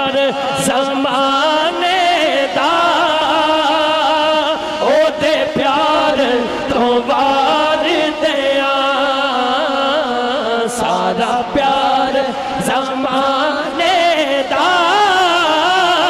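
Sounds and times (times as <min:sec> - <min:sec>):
man singing slow ornamented melody: 0:00.0 - 0:16.0.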